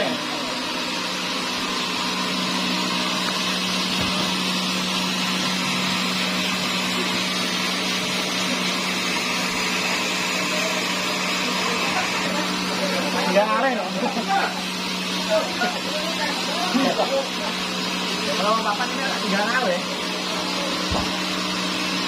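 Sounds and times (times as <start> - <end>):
motor hum: 0.0 - 22.0
saw whirring through log: 0.0 - 22.0.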